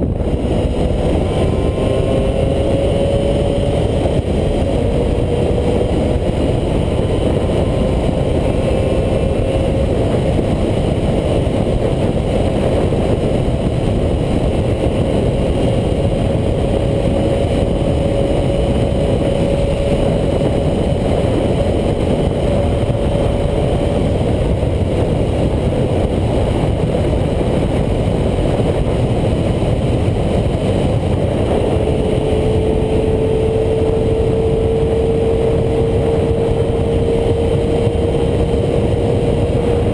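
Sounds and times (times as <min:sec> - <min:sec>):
motorcycle engine at high revs: 0:00.0 - 0:39.9
wind rush over microphone: 0:00.0 - 0:39.9.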